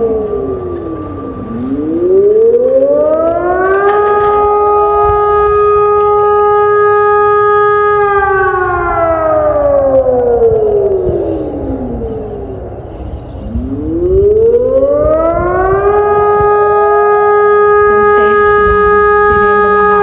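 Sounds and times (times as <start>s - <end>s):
siren wail: 0.0s - 20.0s.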